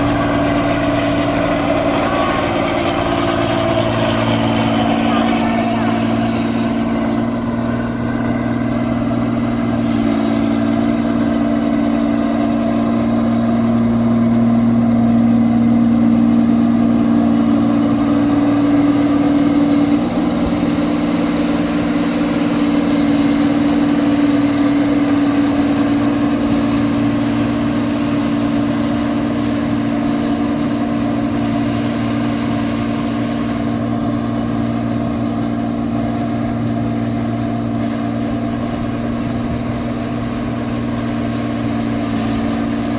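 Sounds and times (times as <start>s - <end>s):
harvester engine droning: 0.0s - 42.9s.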